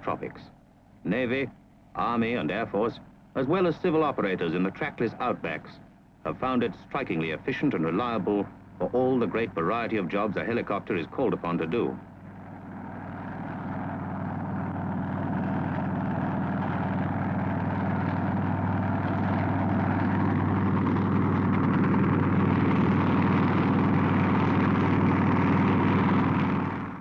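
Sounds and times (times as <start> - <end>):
helicopter engine and rotor: 1.2 - 27.0.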